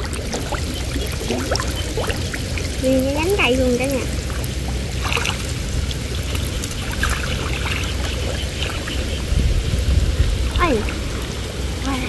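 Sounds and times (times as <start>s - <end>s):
water sloshing around wading person: 0.0s - 12.0s
water splashes: 0.0s - 12.0s.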